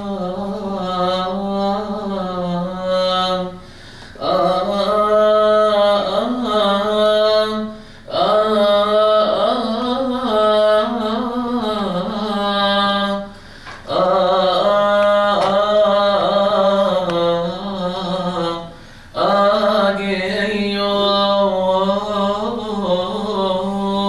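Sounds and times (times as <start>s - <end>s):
man chanting: 0.0s - 3.6s, 4.2s - 24.0s.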